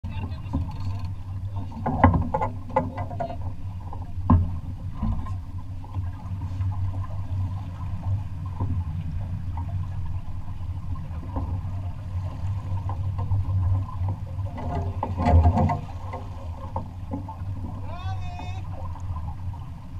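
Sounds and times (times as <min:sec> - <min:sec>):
water rushing along hull: 0:00.0 - 0:19.9
wind rumble on microphone: 0:00.0 - 0:19.9.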